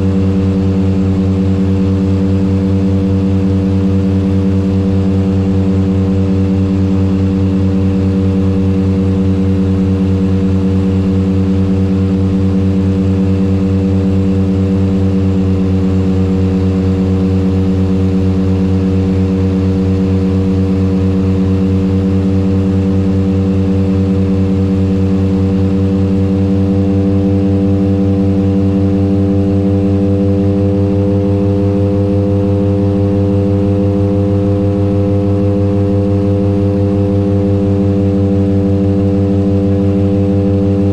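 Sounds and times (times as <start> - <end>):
propeller aircraft engines droning: 0.0 - 40.9.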